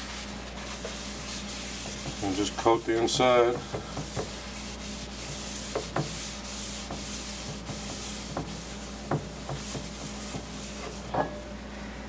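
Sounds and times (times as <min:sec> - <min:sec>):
paper towel wiping skillet: 0:00.0 - 0:11.3.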